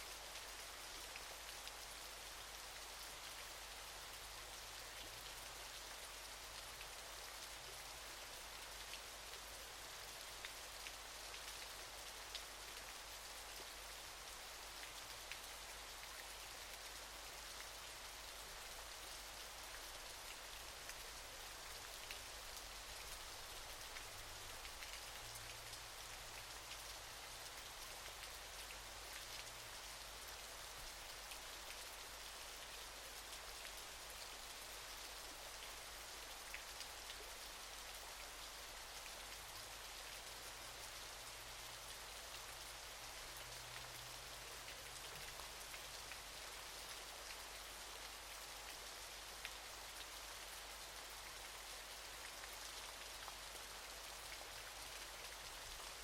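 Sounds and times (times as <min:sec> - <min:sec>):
waterfall: 0:00.0 - 0:56.0.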